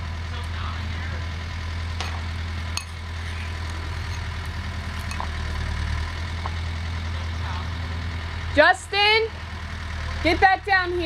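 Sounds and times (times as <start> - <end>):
diesel engine running at low revs: 0.0 - 11.0.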